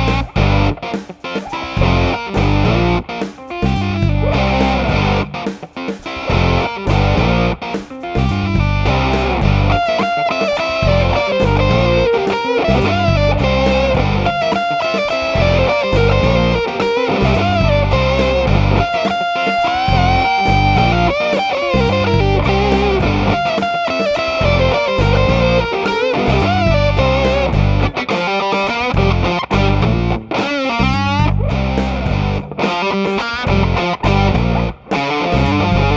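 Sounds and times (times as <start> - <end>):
bent guitar lead note: 0.0 - 35.9
fuzz electric guitar riff: 0.0 - 35.9.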